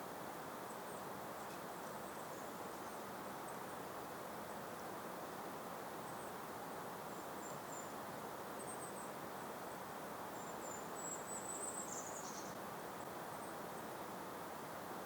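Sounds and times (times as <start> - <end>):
soft breeze: 0.0 - 15.0.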